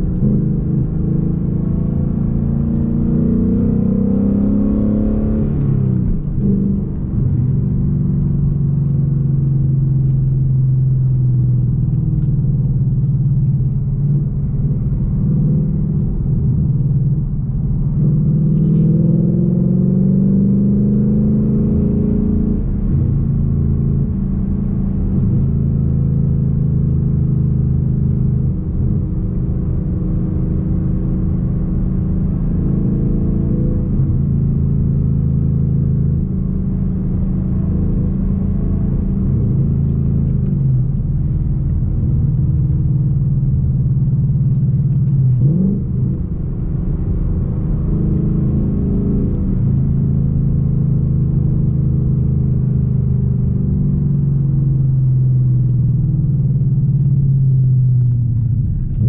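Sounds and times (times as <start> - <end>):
car engine accelerating and cruising: 0.0 - 59.0.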